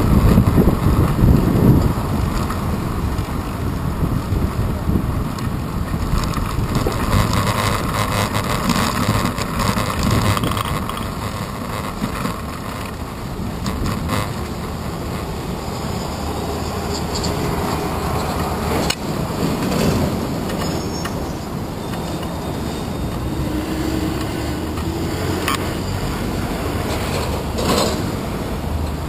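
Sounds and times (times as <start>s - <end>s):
city traffic noise: 0.0s - 29.0s
road rumble: 0.0s - 29.0s.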